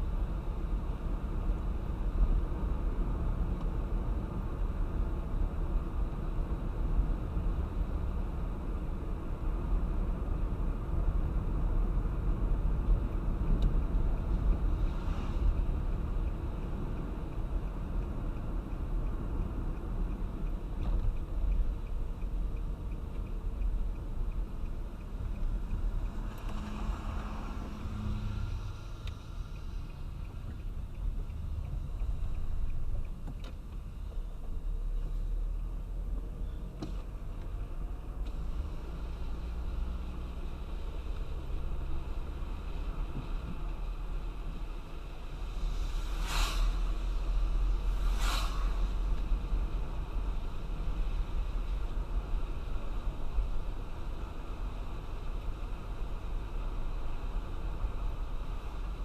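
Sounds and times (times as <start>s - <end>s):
tyre and road noise: 0.0s - 59.0s.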